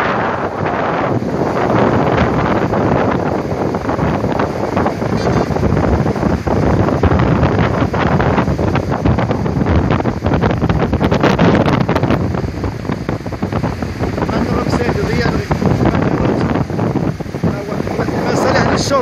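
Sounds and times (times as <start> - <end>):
water rushing down rocks: 0.0 - 19.0
wind buffeting microphone: 0.0 - 19.0.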